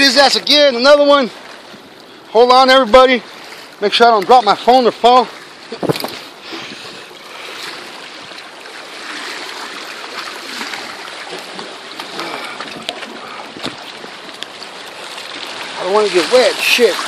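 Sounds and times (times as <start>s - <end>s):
water sloshing among rocks: 0.0s - 17.0s.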